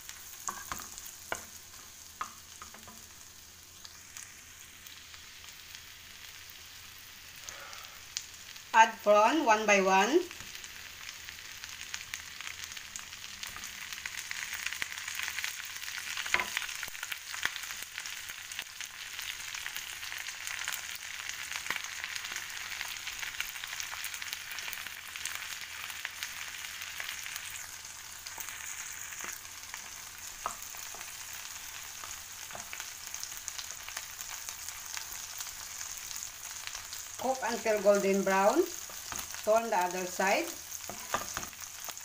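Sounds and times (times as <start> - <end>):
prawns sizzling in a frying pan: 0.0 - 42.0.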